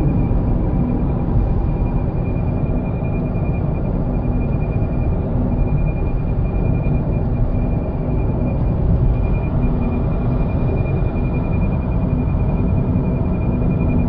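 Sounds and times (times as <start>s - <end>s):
steady low noise: 0.0s - 13.1s.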